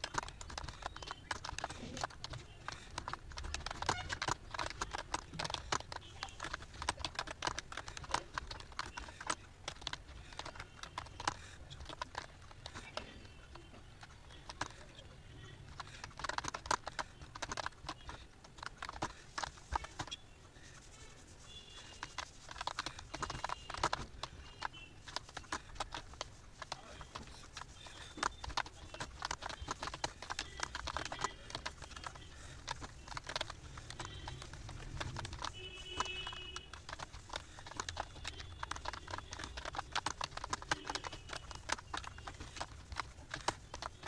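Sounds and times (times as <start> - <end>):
keyboard typing: 0.0 - 44.0.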